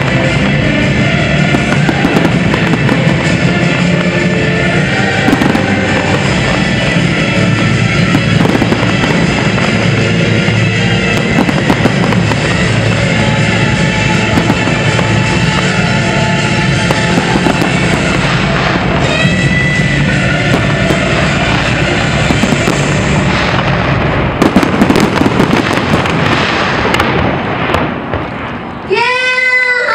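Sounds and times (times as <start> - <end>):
music playing: 0.0 - 27.7
fireworks bursting and crackling: 0.0 - 29.1.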